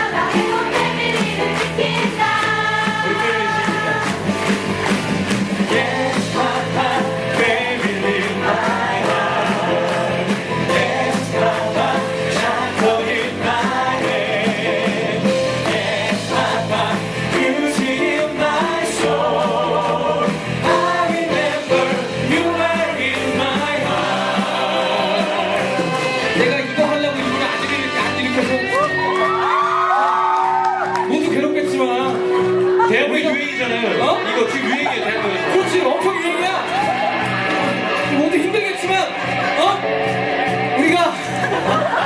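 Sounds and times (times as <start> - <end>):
people singing with vibrato: 0.0 - 29.9, 32.2 - 42.0
instrumental accompaniment: 0.0 - 42.0.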